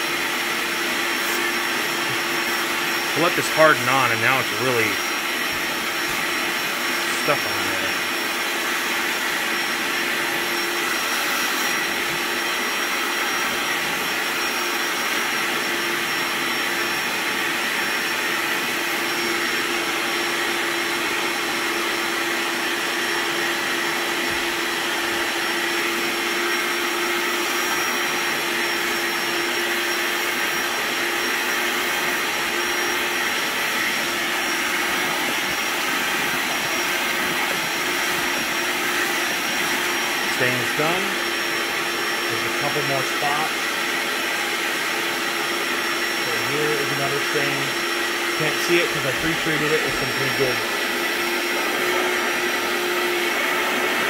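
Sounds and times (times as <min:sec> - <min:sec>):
spot cleaner suction motor whine: 0:00.0 - 0:54.0.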